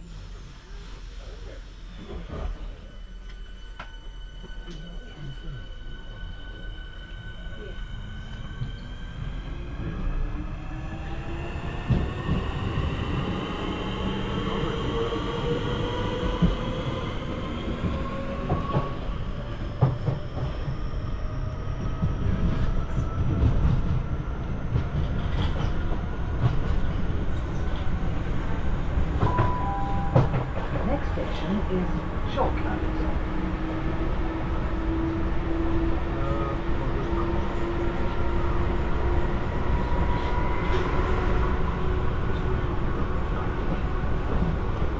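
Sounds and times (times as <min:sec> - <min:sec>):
wheels rumbling on rail: 0:00.0 - 0:44.9.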